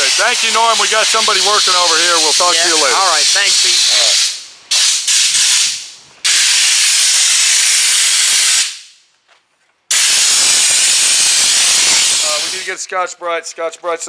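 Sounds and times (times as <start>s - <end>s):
compressed-air blow gun hissing: 0.0s - 8.9s, 9.9s - 12.8s.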